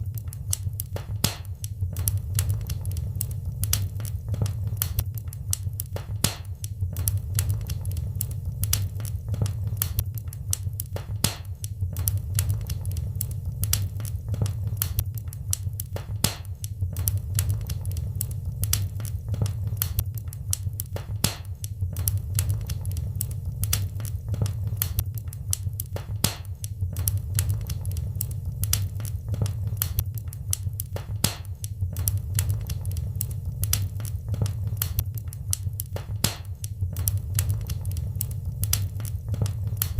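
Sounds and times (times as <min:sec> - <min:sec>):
low rush of burning fire: 0:00.0 - 0:39.9
wood fire crackling: 0:00.0 - 0:39.9.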